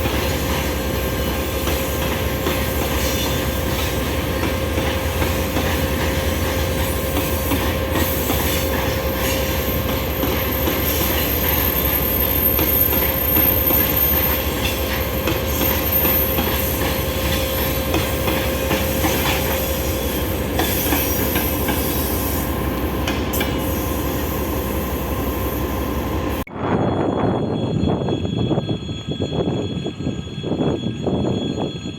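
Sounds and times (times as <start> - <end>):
train wheel squeal: 0.0 - 31.9
train wheels rumbling on rails: 0.0 - 31.9.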